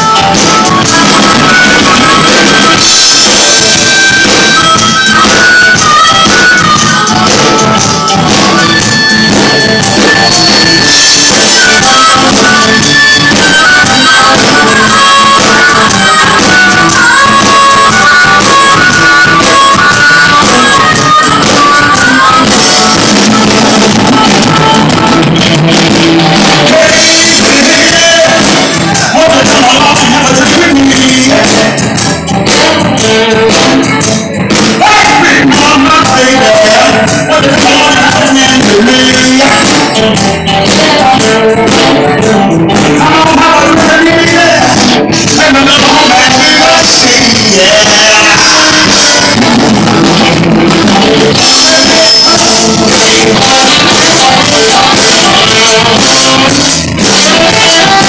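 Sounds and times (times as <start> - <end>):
live blues band playing: 0.0 - 58.0
wavering harmonica lead: 0.0 - 58.0.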